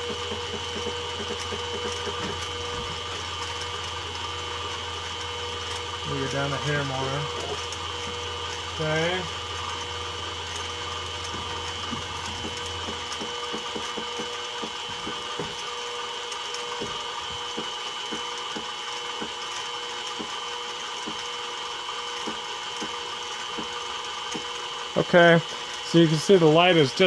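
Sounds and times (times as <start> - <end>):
milling spindle whine: 0.0 - 27.0
small stepper motor ticks: 0.0 - 27.0.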